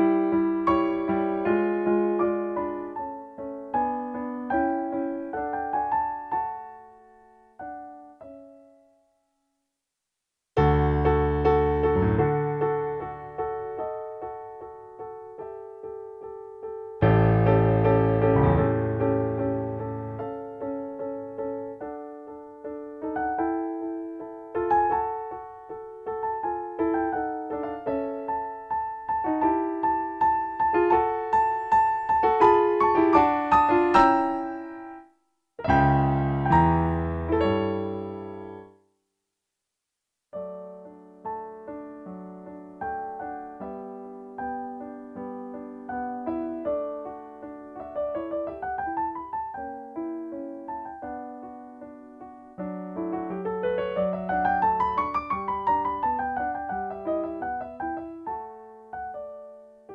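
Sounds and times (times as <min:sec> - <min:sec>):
solo piano music: 0:00.0 - 0:09.4, 0:10.6 - 0:38.8, 0:40.3 - 0:59.9.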